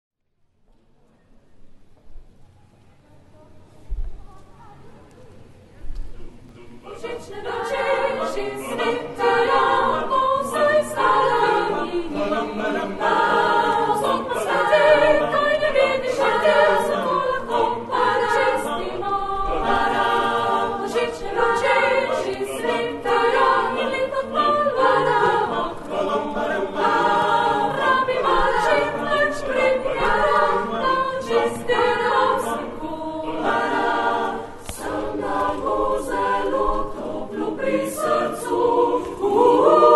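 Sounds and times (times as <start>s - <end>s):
mixed choir singing a cappella: 6.2s - 39.9s.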